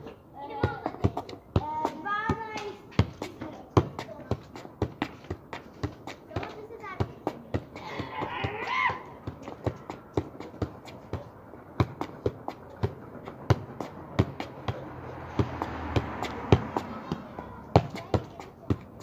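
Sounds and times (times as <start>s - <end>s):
football thuds: 0.6s - 19.0s.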